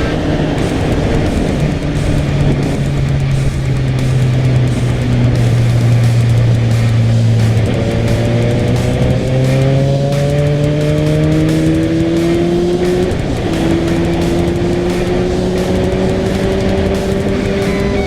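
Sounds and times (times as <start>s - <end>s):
motorcycle engine accelerating: 0.6s - 18.0s.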